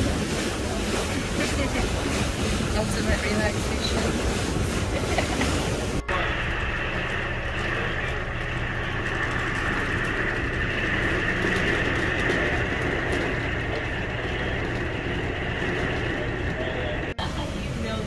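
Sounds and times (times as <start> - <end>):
low hum: 0.0 - 18.0
windy rainstorm through window: 0.0 - 18.0.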